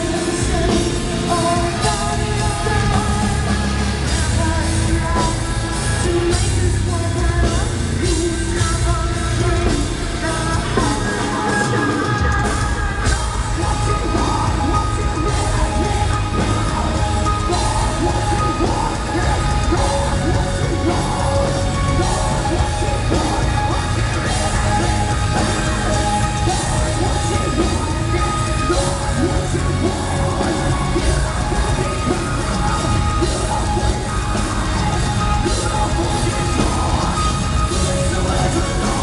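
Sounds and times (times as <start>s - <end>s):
live metal band: 0.0s - 39.0s.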